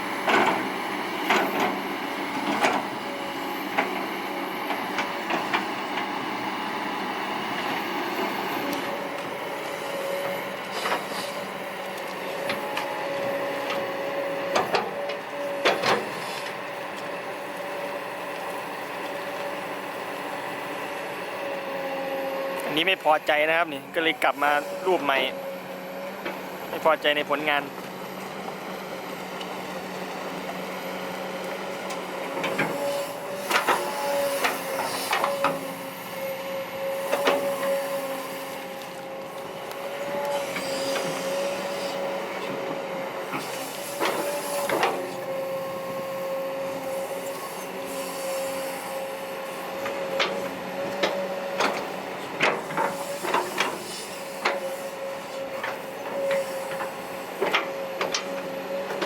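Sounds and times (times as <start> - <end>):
excavator whine: 0.0 - 59.0.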